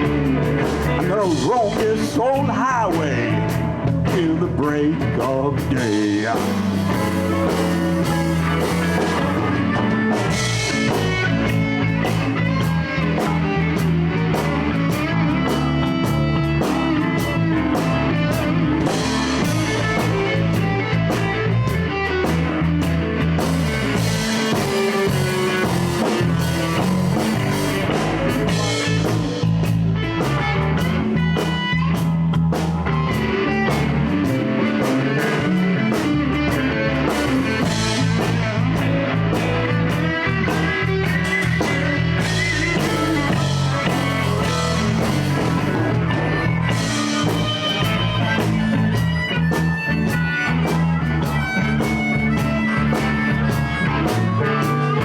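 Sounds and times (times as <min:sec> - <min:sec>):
live blues band playing: 0:00.0 - 0:55.0.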